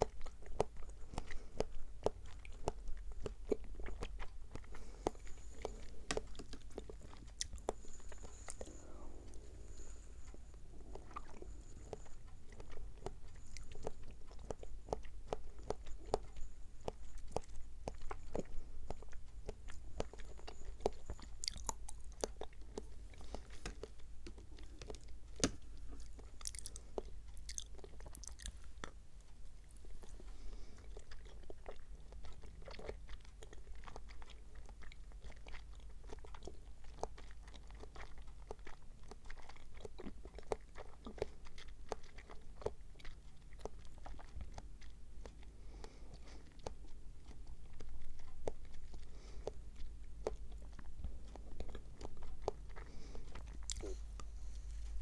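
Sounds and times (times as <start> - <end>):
wet chewing with mouth clicks: 0.0 - 55.0.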